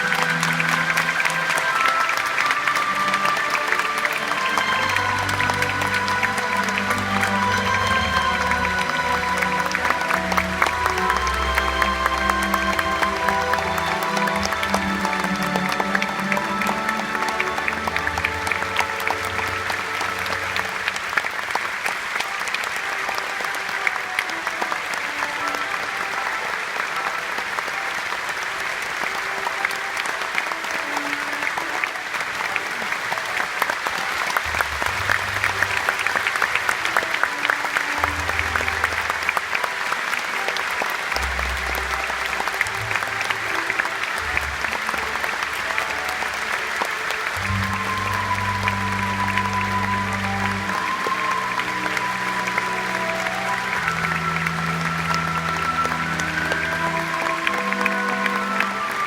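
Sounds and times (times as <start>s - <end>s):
audience applause: 0.0s - 59.0s
orchestral music: 0.0s - 59.0s.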